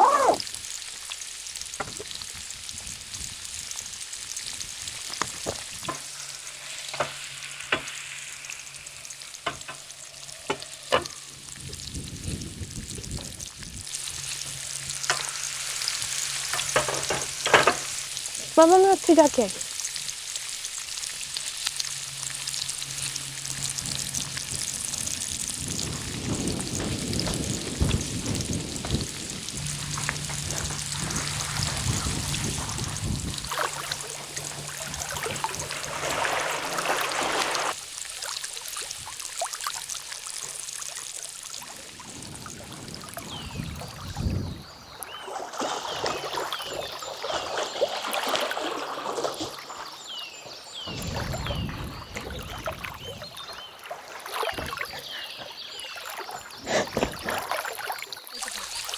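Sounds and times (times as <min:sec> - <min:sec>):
water splashing and trickling: 0:00.0 - 0:58.9.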